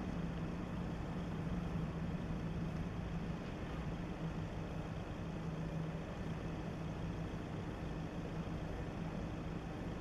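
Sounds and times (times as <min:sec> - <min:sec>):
ship diesel engine drone: 0:00.0 - 0:10.0.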